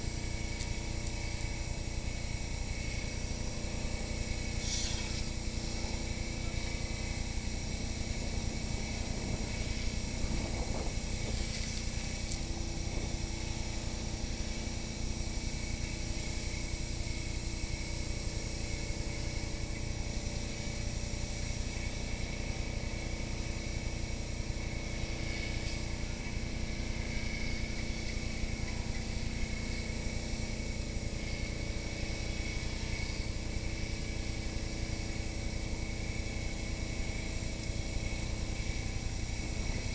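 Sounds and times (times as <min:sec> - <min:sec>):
fire truck engine and pump droning: 0:00.0 - 0:39.9
spraying water hiss: 0:00.0 - 0:39.9.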